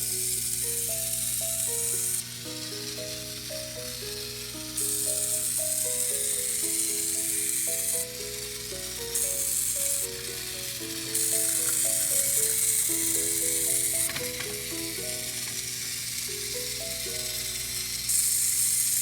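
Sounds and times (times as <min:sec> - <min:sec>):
high hiss: 0:00.0 - 0:19.0.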